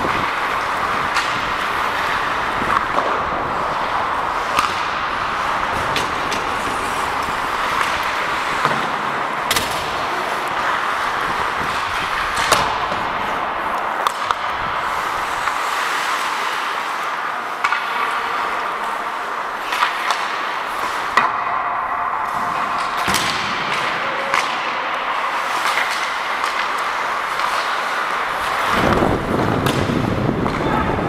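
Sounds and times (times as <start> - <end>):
hockey sticks knocking puck: 0.0 - 31.0
skates on ice: 0.0 - 31.0.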